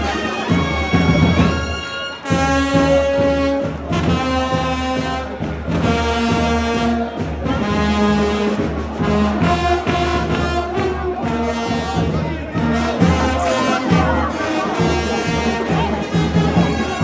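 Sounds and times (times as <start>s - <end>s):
brass band playing march: 0.0s - 17.0s.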